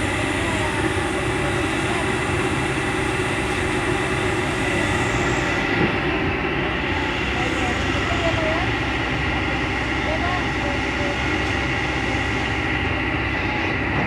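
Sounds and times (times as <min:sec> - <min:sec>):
heavy diesel engines under load: 0:00.0 - 0:14.0.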